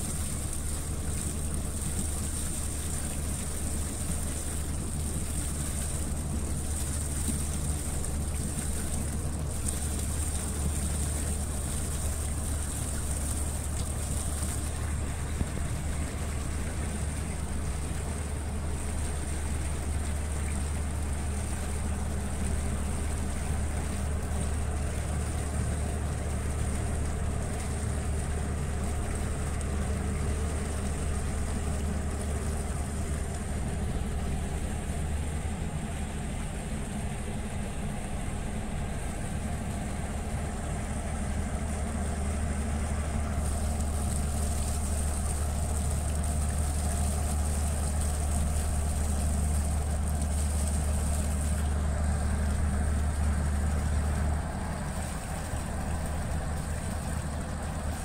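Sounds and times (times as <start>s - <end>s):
ship engines droning: 0.0s - 58.0s.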